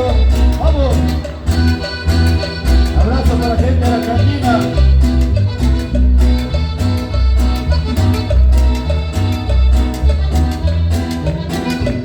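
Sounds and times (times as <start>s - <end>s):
latin dance band playing: 0.0s - 12.0s.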